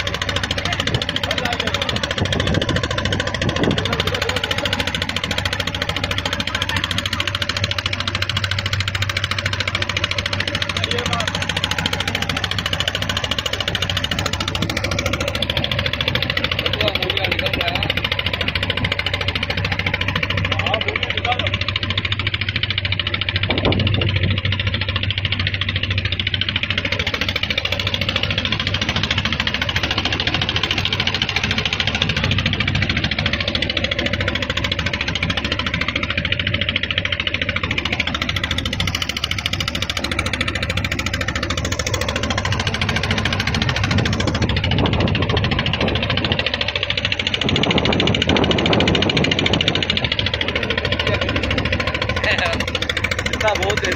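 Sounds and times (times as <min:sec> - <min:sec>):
motorboat engine running: 0:00.0 - 0:53.9.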